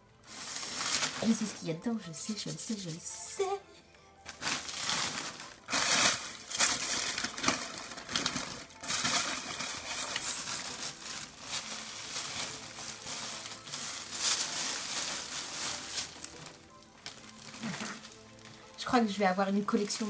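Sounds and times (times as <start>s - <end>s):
packaging crinkling and rustling: 0.2s - 3.5s, 4.2s - 20.0s.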